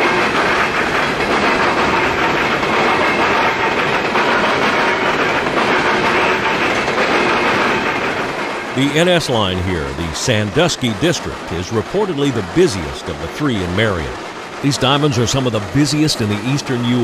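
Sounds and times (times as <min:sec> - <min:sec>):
steel wheels rolling on rail: 0:00.0 - 0:17.0.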